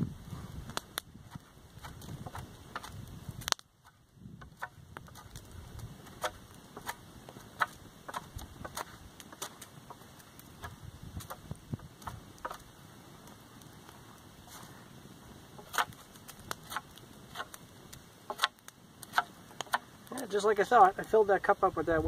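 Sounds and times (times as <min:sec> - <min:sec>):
crackling campfire: 0:00.0 - 0:22.0.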